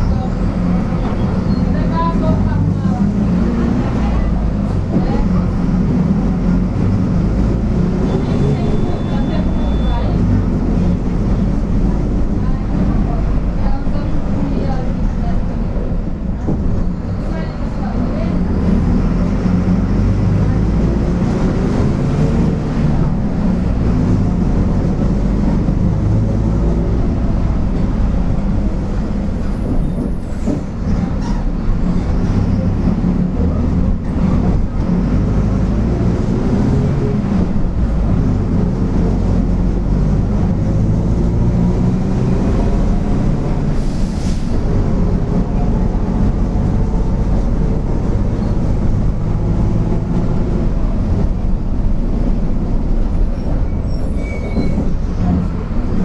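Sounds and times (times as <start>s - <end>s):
bus diesel engine rumbling: 0.0s - 56.0s.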